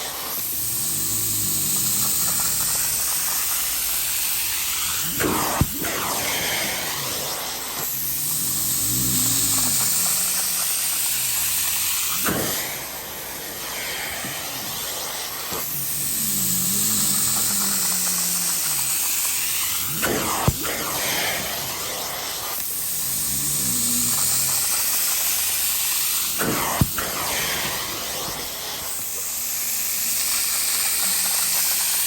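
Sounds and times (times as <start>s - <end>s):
carpet cleaner spraying and vacuuming: 0.0s - 32.0s.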